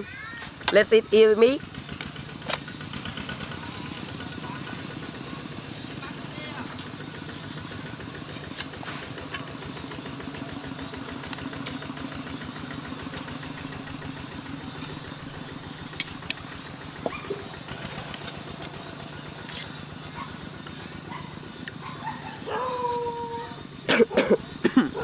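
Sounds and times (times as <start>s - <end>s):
engine running with fast pulse: 1.0s - 25.0s.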